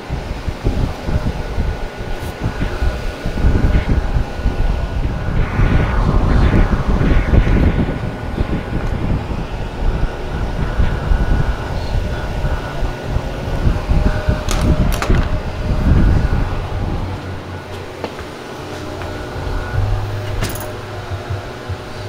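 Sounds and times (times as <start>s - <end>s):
wind noise on microphone: 0.0s - 22.0s
low rumble: 0.4s - 22.0s.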